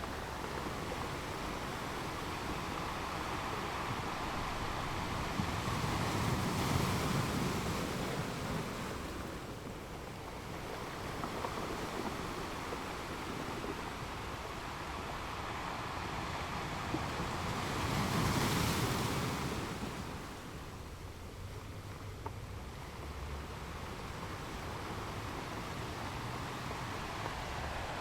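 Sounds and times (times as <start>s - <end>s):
ocean waves washing in: 0.0s - 21.0s, 22.8s - 28.0s.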